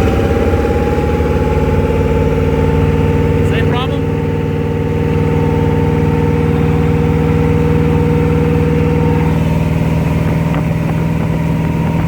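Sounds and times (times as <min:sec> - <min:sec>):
boat engine running under throttle: 0:00.0 - 0:12.0.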